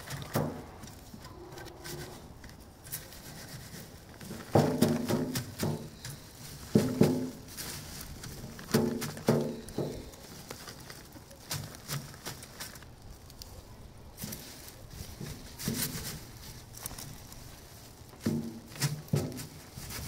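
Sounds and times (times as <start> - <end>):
seed heads rustling on wire mesh: 0.0 - 20.0.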